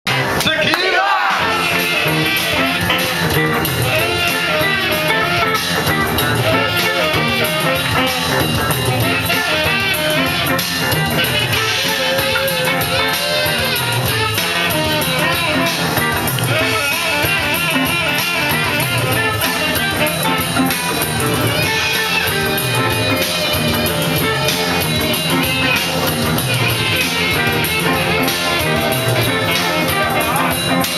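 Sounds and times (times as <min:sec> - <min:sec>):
drum kit beat: 0:00.1 - 0:30.9
electric guitars: 0:01.3 - 0:30.9.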